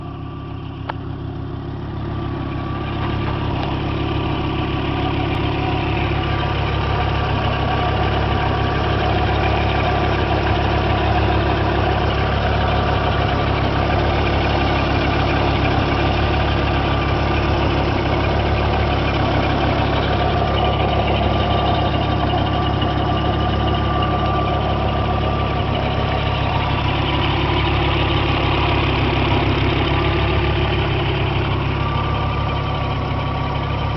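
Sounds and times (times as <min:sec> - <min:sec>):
car engine idling: 0:00.0 - 0:33.9
strange chopping engine noise: 0:00.0 - 0:33.9.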